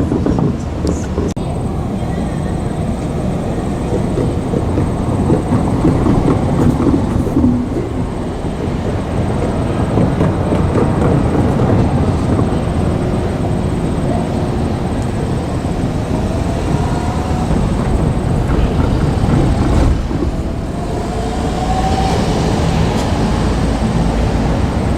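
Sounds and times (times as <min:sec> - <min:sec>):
electric train running on rails: 0:00.0 - 0:24.9.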